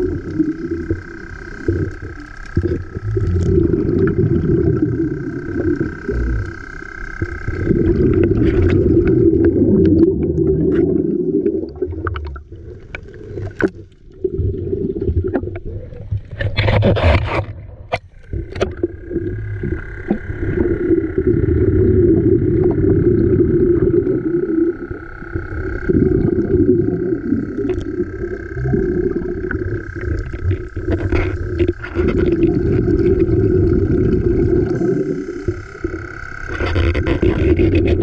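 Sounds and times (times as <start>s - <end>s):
steady high whine: 0.0s - 16.6s, 17.2s - 38.0s
muffled underwater rumble: 0.0s - 38.0s.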